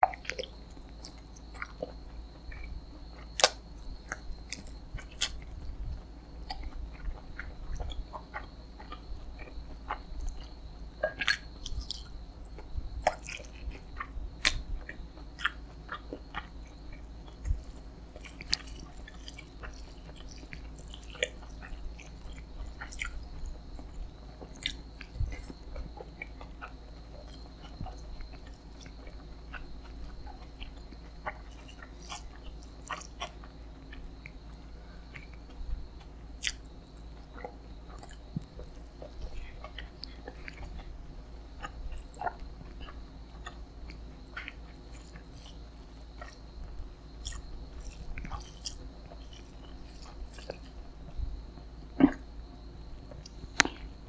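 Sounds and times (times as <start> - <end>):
wet mouth clicks: 0.0 - 5.5, 6.4 - 35.6, 36.4 - 36.6, 37.4 - 40.9, 41.5 - 46.5, 47.2 - 50.8
chewing and biting food: 0.0 - 54.0
steady low hum: 0.0 - 54.0.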